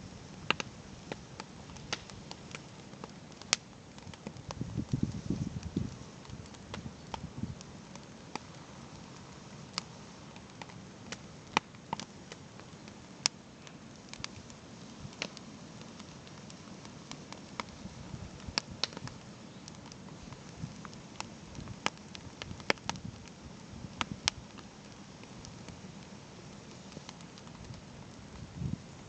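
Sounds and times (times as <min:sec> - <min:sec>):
campfire crackling: 0:00.0 - 0:29.0
low steady hiss: 0:00.0 - 0:29.0.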